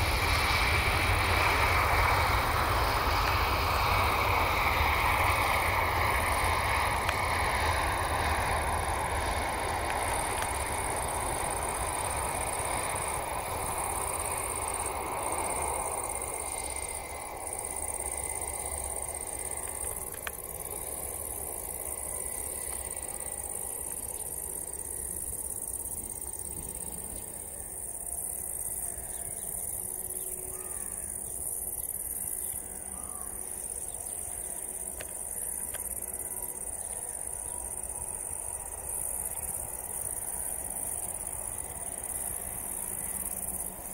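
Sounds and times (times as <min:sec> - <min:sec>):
insects chirring: 0:00.0 - 0:43.9
jet engines rushing: 0:00.0 - 0:43.9.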